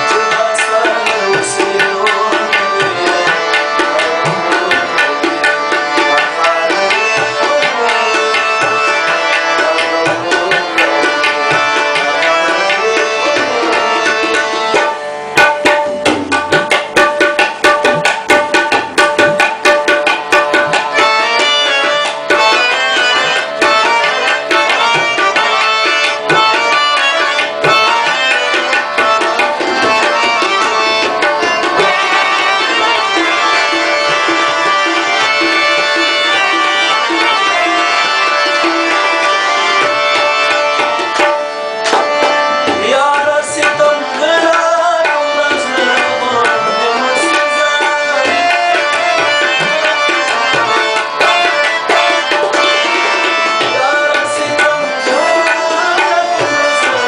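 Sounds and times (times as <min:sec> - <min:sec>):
harmonium melody: 0:00.0 - 0:57.0
tabla drumming: 0:00.0 - 0:57.0.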